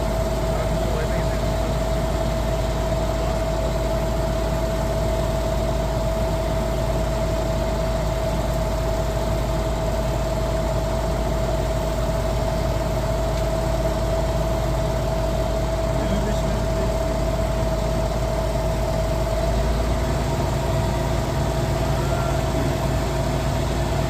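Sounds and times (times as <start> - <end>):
diesel engine idling: 0.0 - 24.0
steady whine: 0.0 - 24.0.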